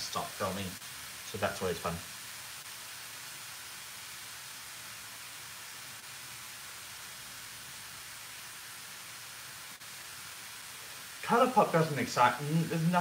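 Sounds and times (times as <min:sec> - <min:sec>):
stir fry sizzling in oil: 0:00.0 - 0:13.0.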